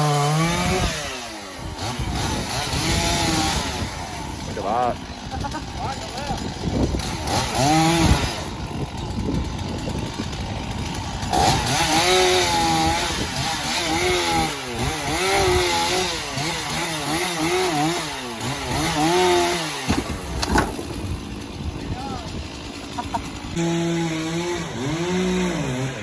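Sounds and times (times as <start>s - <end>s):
chainsaw revving: 0.0s - 26.0s.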